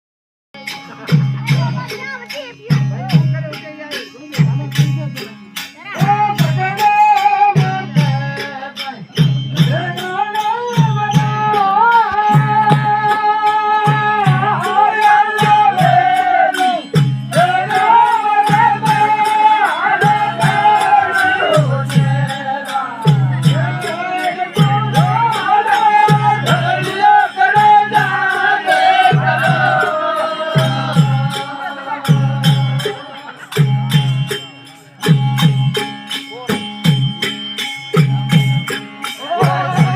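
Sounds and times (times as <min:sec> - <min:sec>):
jingling rattling percussion: 0:00.6 - 0:39.9
drum beat: 0:00.9 - 0:39.9.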